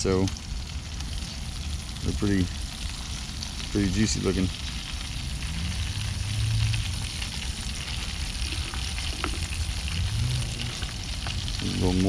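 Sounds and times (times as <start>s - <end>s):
fish deep-frying in oil: 0.0s - 12.0s
low stove rumble: 0.0s - 12.0s.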